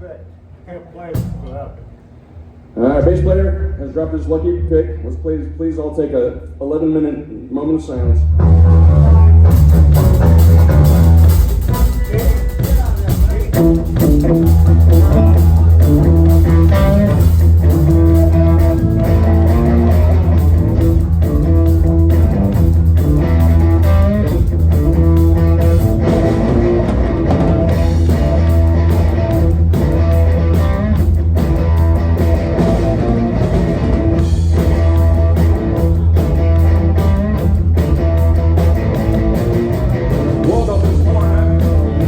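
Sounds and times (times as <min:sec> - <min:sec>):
drum hits: 0:01.0 - 0:02.2, 0:09.4 - 0:42.0
bass guitar line: 0:07.9 - 0:42.0
electric guitar: 0:08.0 - 0:42.0.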